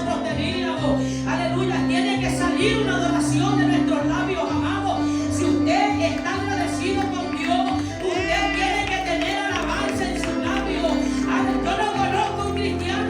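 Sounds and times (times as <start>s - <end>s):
bass: 0.0s - 13.0s
guitar: 0.0s - 13.0s.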